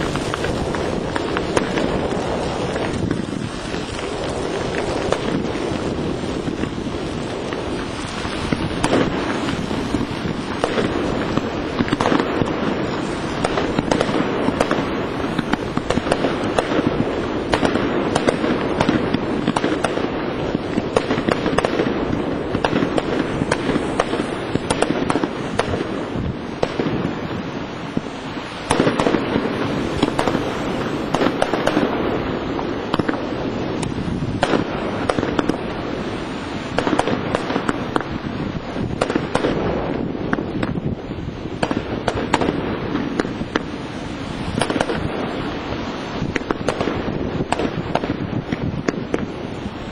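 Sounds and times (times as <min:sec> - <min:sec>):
firework shells bursting: 0:00.0 - 0:49.9.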